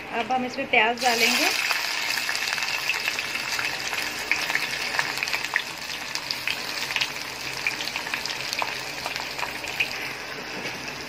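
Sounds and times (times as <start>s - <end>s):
onions sizzling in oil: 1.0s - 11.0s.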